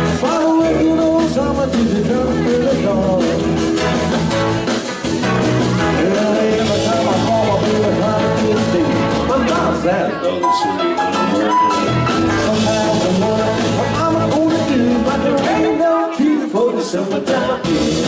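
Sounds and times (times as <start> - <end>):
rockabilly band playing: 0.0 - 18.0.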